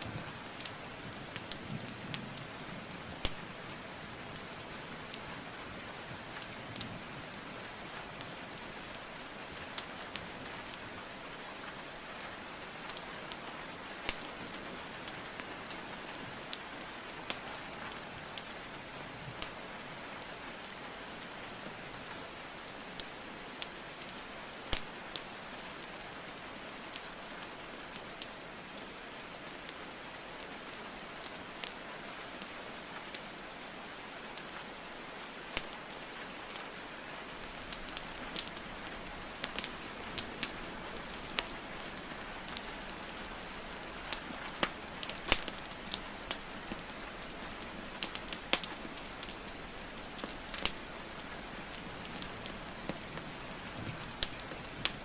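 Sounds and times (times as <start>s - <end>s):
burning logs crackling and popping: 0.0s - 55.0s
steady rainfall: 0.0s - 55.0s.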